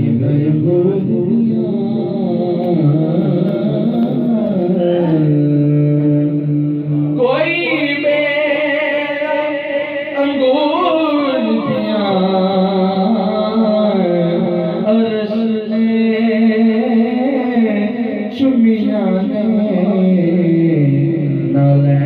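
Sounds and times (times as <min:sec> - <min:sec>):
person singing devotional song: 0:00.0 - 0:22.0.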